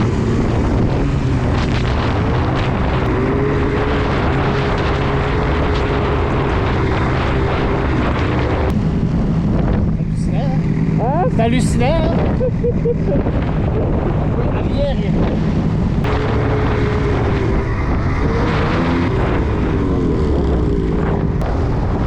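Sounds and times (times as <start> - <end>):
vehicle engine running: 0.0 - 22.0
wind rushing on microphone: 0.0 - 22.0.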